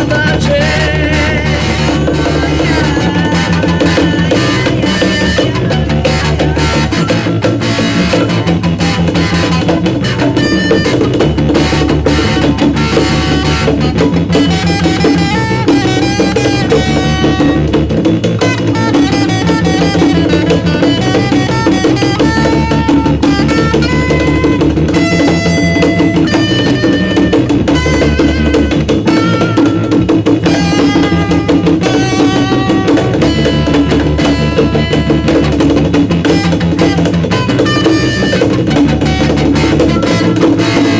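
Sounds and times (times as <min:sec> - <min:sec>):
bass: 0:00.0 - 0:40.9
drum kit beat: 0:00.0 - 0:40.9
melodic lead line: 0:00.0 - 0:40.9.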